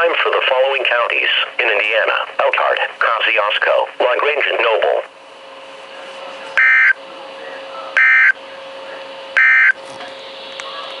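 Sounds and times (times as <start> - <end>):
radio hum and hiss: 0.0 - 11.0.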